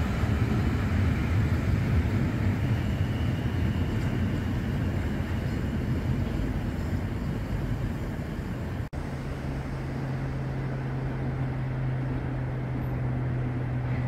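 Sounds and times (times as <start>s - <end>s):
electric train rumbling on tracks: 0.0s - 14.0s.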